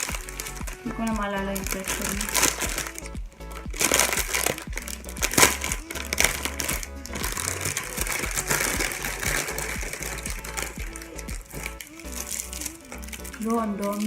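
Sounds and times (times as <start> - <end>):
background music: 0.0 - 14.0
packaging rustles and clicks: 0.0 - 14.0.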